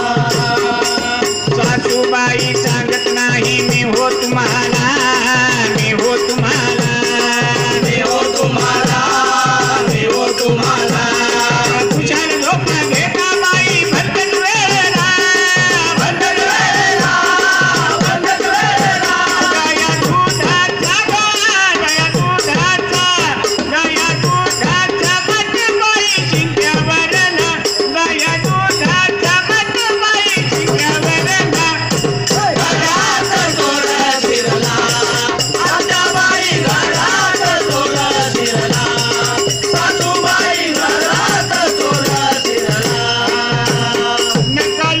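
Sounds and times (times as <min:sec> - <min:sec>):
devotional singing: 0:00.0 - 0:45.0
hand cymbals jingling: 0:00.1 - 0:45.0.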